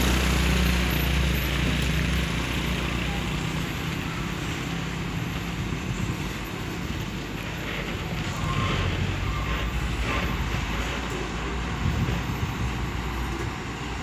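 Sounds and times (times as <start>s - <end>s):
road noise: 0.0s - 14.0s
truck engine running: 0.0s - 14.0s.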